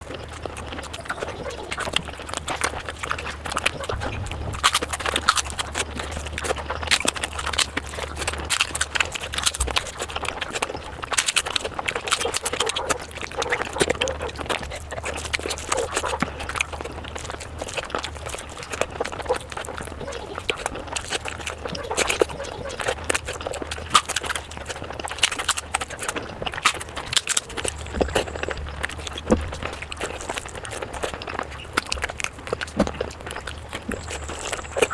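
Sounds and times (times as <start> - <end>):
low hum: 0.0 - 34.9
wet chewing and mouth clicks: 0.0 - 34.9.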